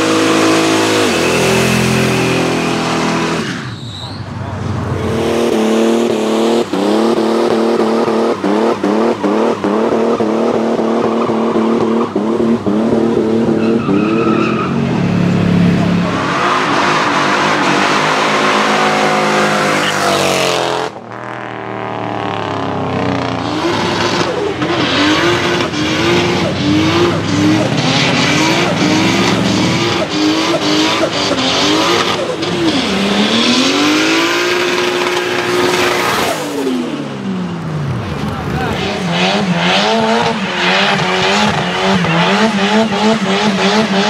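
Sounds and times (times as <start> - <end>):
engines revving: 0.0 - 44.0.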